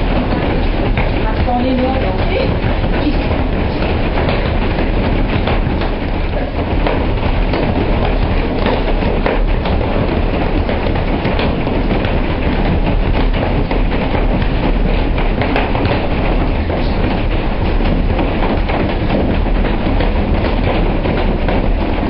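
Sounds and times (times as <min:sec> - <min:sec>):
hail clattering on ground: 0:00.0 - 0:22.0.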